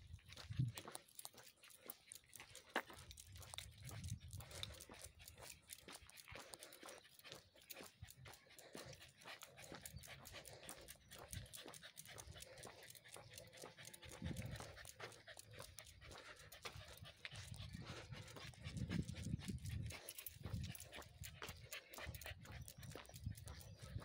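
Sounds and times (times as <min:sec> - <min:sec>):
faint rapid panting: 0:00.0 - 0:24.0.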